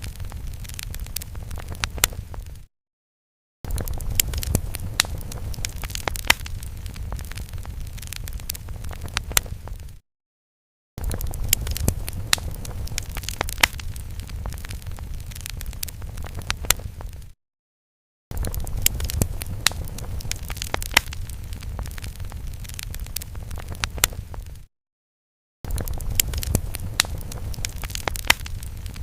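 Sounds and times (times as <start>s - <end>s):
fire crackling: 0.0s - 2.7s, 3.7s - 10.0s, 11.0s - 17.4s, 18.3s - 24.7s, 25.7s - 29.0s.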